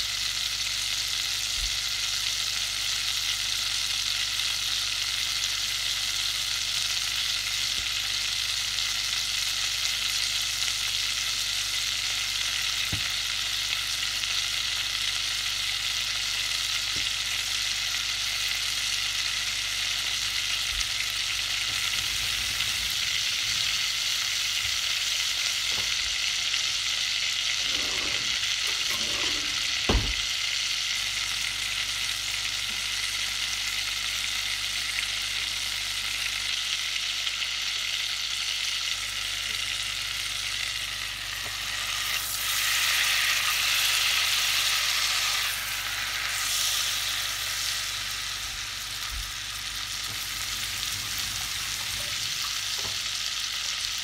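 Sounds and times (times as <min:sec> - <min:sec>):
butter sizzling in a pot: 0:00.0 - 0:54.0.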